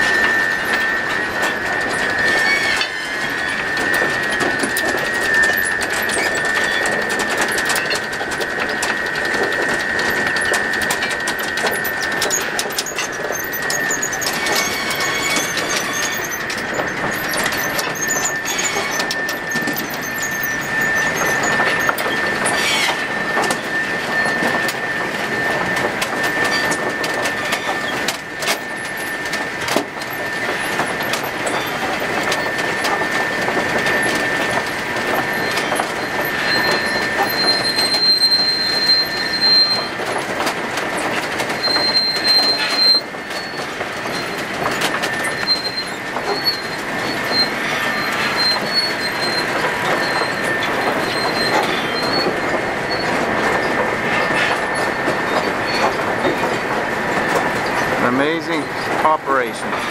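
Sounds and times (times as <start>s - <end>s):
high-pitched squeal: 0.0s - 59.9s
higher whine: 0.0s - 59.9s
machinery clattering: 0.0s - 59.9s.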